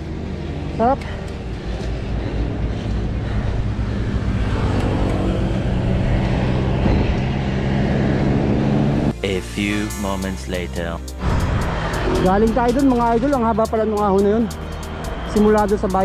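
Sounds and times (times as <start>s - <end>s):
motor traffic drone: 0.0s - 16.0s
road noise with low hum: 0.0s - 16.0s.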